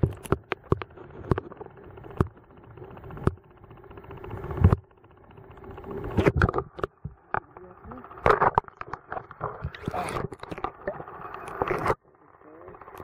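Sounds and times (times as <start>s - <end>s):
underwater low hum: 0.0s - 13.0s.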